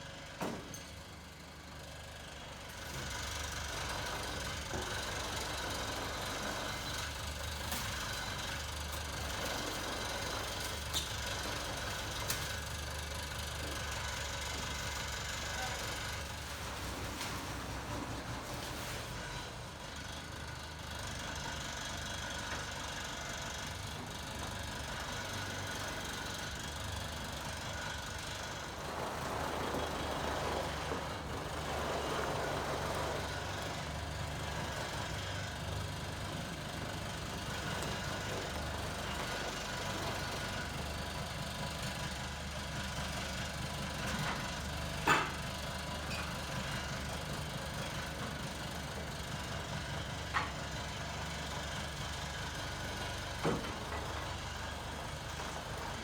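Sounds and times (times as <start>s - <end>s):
truck engine idling: 1.0s - 56.0s.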